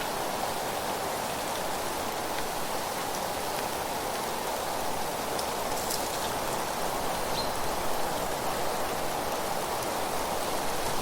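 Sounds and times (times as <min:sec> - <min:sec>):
steady rushing nature ambience: 0:00.0 - 0:11.0.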